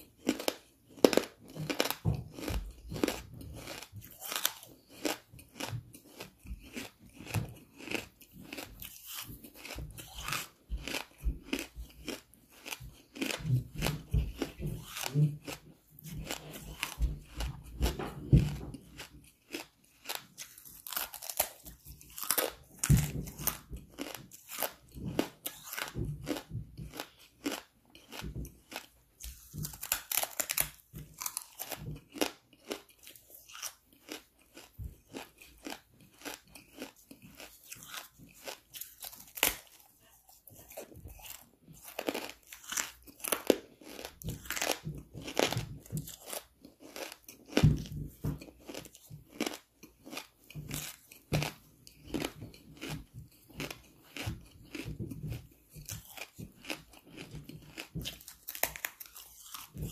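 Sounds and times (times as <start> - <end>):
person chewing hard charcoal: 0.0 - 59.9.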